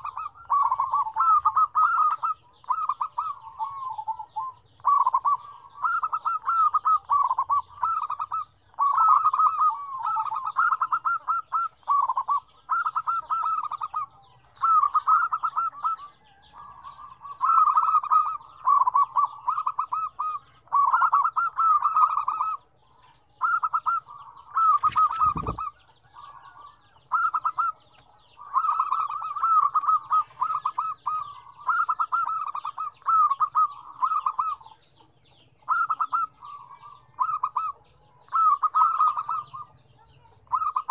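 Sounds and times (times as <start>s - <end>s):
doves cooing and trilling: 0.0s - 40.9s.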